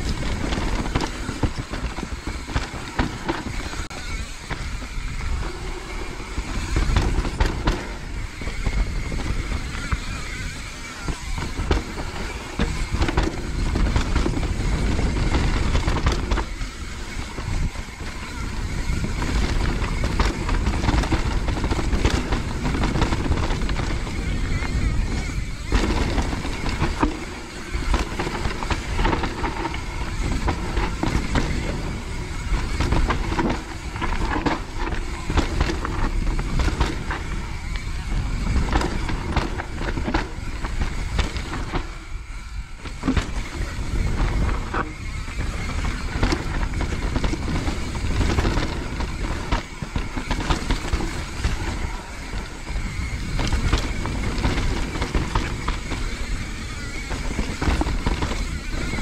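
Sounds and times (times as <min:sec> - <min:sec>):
bike knocking and rattling: 0:00.0 - 0:59.0
bike tyres rumbling: 0:00.0 - 0:59.0
wind noise: 0:00.0 - 0:59.0.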